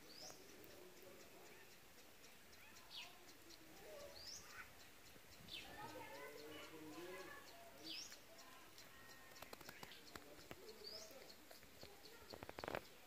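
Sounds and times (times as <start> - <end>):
fast high ticking: 0.0 - 13.0.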